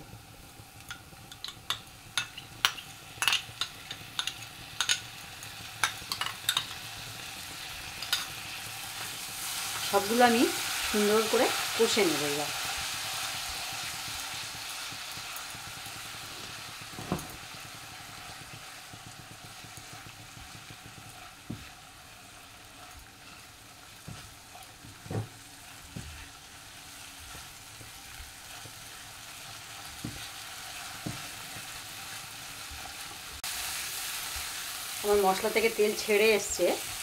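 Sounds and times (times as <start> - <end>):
paste sizzling in oil: 0.0 - 37.0.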